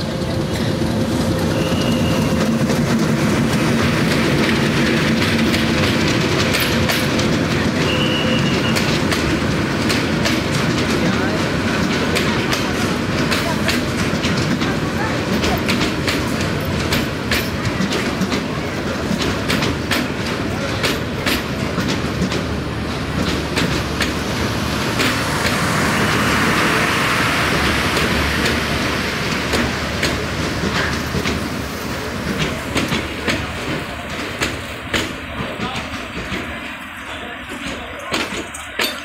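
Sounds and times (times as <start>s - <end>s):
wheels clicking over rail joints: 0.0s - 25.9s, 27.7s - 39.0s
train coaches rumbling past: 0.0s - 39.0s.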